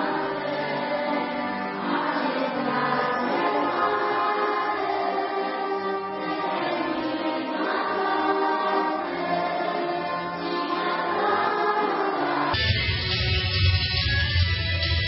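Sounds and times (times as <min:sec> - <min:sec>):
children's choir singing: 0:00.0 - 0:12.7
accordion: 0:00.0 - 0:15.0.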